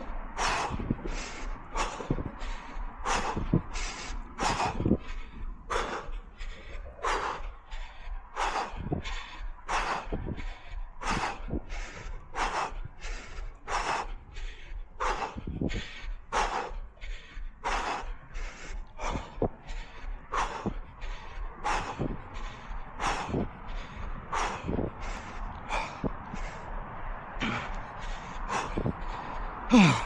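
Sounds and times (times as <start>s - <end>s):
runner breathing hard: 0.0s - 30.0s.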